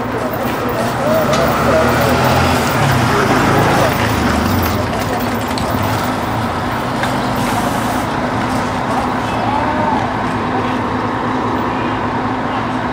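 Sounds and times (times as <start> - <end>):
road and traffic noise: 0.0 - 12.9
vehicle engine hum: 0.0 - 12.9.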